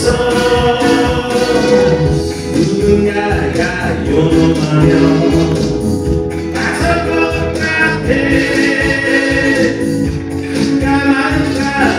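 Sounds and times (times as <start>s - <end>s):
man singing into microphone: 0.0s - 11.9s
pop backing music with beat: 0.0s - 11.9s.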